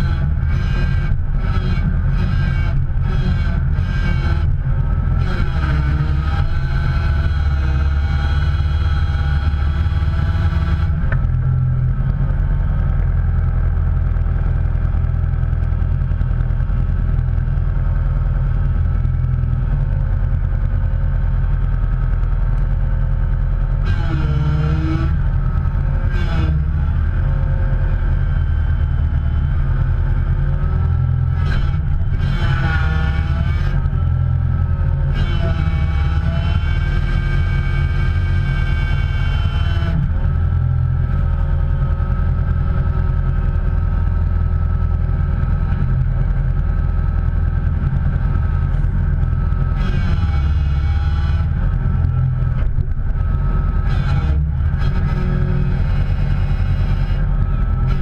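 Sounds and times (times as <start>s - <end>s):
vehicle engine running loudly: 0.0s - 58.0s.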